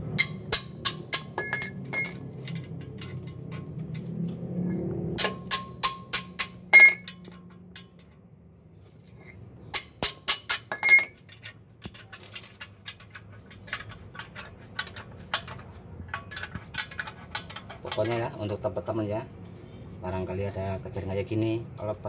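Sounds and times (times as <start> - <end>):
metal tools clinking on bolts: 0.0 - 8.3, 9.0 - 19.6.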